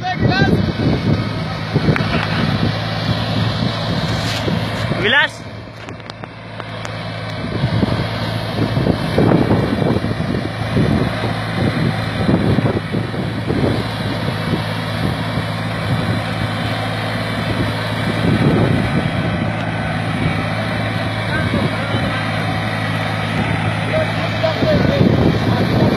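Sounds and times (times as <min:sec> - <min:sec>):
tractor engine under load: 0:00.0 - 0:25.9.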